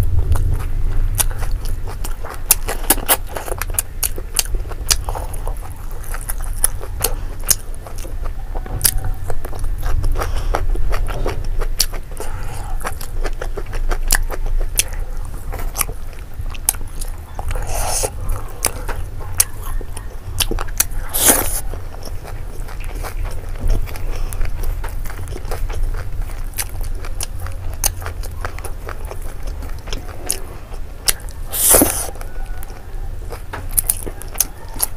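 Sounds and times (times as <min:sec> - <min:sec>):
crunchy bites: 0:00.0 - 0:34.9
wet mouth chewing smacks: 0:00.3 - 0:34.9.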